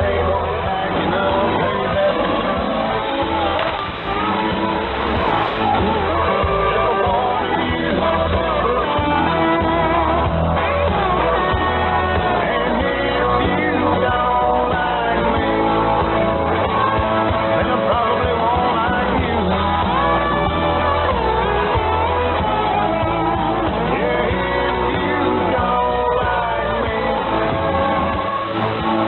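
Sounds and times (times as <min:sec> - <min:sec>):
song with singing over radio: 0:00.0 - 0:29.0.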